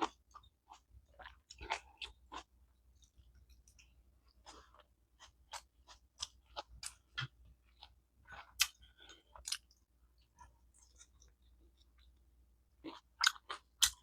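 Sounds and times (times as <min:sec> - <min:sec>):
person chewing crunchy food: 0:00.0 - 0:12.2, 0:12.8 - 0:14.0.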